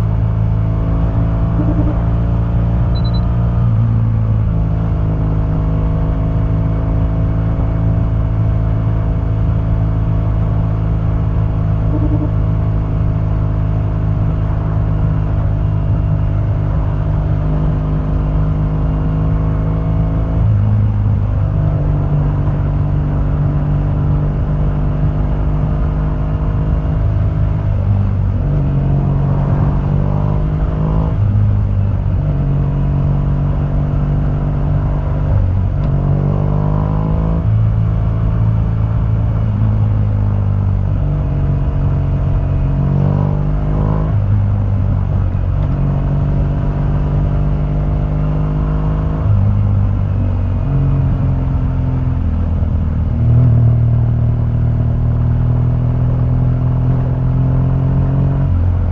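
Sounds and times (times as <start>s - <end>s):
motorcycle engine while riding: 0.0s - 58.9s.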